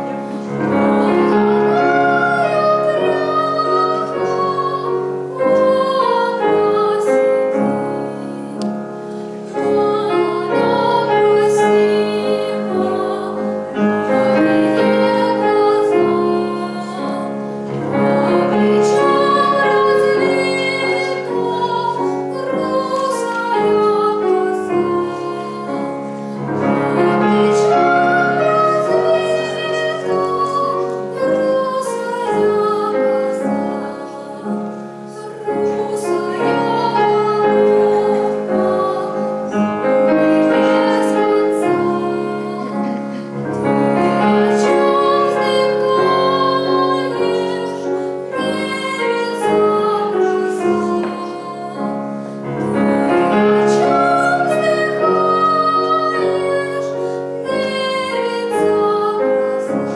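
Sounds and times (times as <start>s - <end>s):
grand piano accompaniment: 0.0s - 59.9s
girl singing operatic song: 0.4s - 59.9s.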